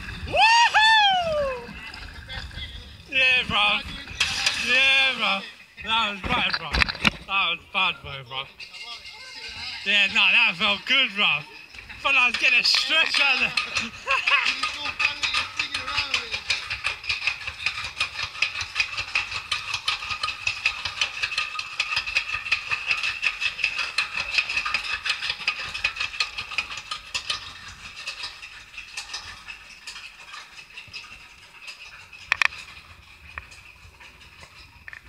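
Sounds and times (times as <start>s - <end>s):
chain lift clattering: 1.5s - 7.4s, 8.4s - 35.0s.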